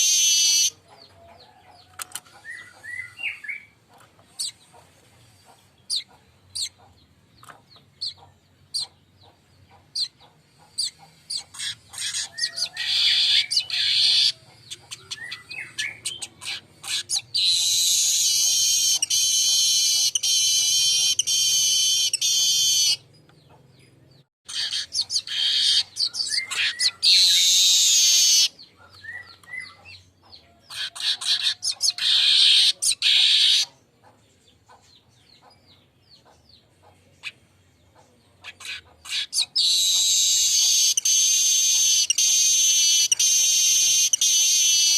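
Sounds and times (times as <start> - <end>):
bird ticking and buzzy song: 0.0 - 44.9.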